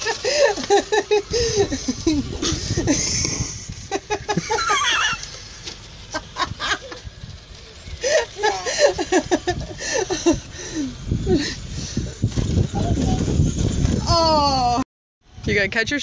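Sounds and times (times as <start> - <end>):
children laughing and squealing: 0.0 - 14.8.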